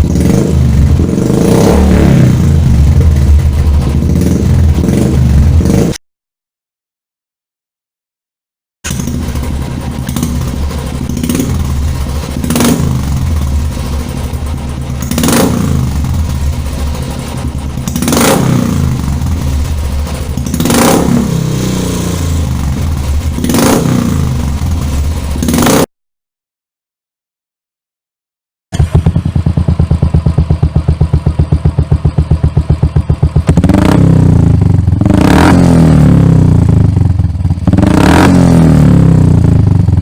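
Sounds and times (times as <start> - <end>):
motorcycle engine idling: 0.0 - 5.9, 8.9 - 25.5, 28.7 - 40.0.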